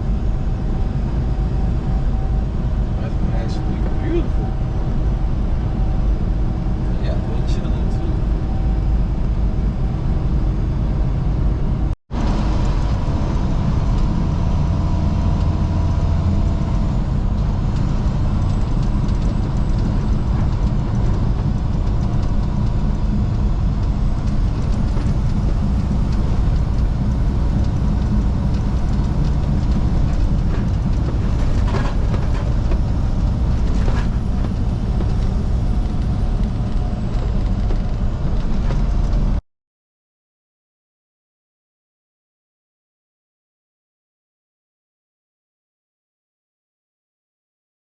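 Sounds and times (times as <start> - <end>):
truck engine rumbling: 0.0 - 39.4.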